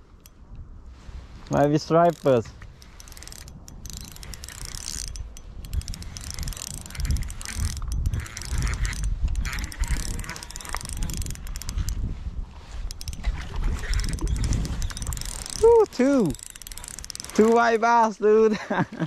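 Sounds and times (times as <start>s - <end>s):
wind buffeting microphone: 0.0s - 18.8s
fishing reel whirring and clicking: 0.1s - 0.6s, 1.4s - 17.9s.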